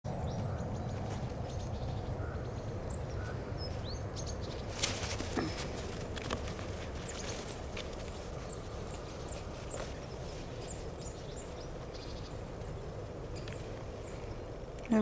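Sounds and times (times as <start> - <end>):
low outdoor noise: 0.1 - 15.0.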